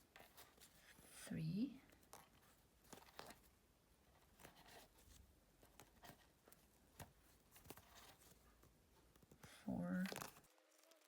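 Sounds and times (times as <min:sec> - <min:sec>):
crochet hook rustling cord: 0:00.0 - 0:11.0.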